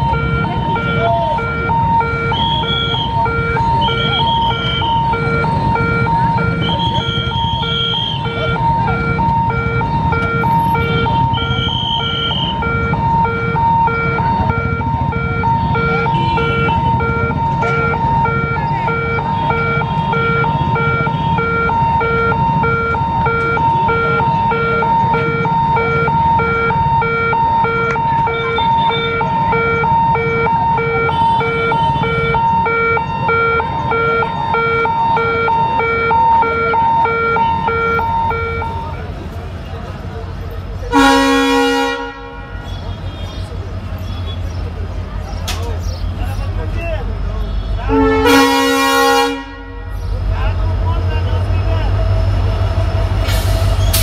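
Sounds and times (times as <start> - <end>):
level crossing hooter beeping: 0.0 - 54.0
street traffic and crowd rumble: 0.0 - 54.0.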